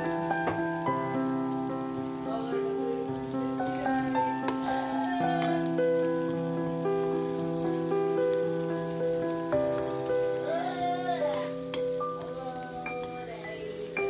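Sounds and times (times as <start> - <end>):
background music of held chords: 0.0 - 14.0
vegetables sizzling in a skillet: 0.0 - 14.0.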